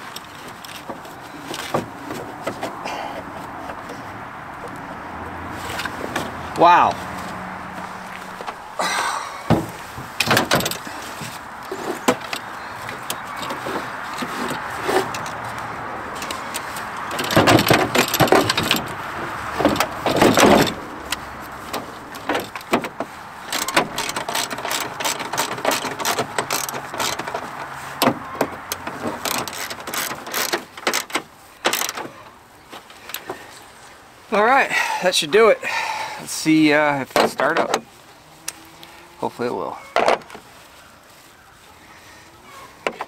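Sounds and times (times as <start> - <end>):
hand tools clicking and clanking metal: 0.0 - 4.8, 5.6 - 33.7, 35.7 - 37.9, 42.4 - 43.0.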